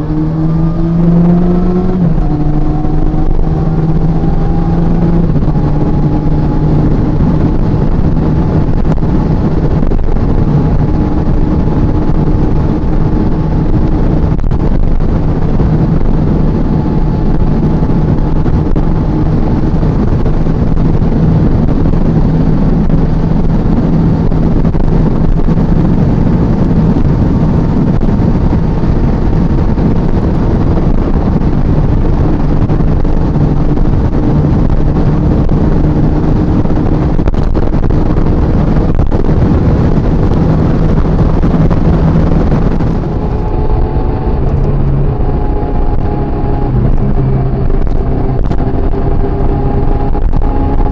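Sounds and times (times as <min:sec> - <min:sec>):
motorcycle engine cruising: 0:00.0 - 0:50.9
wind rushing over microphone: 0:00.0 - 0:50.9.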